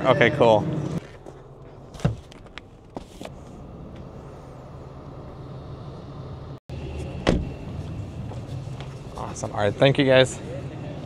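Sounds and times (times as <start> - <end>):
steady low hum: 0.6 - 11.0.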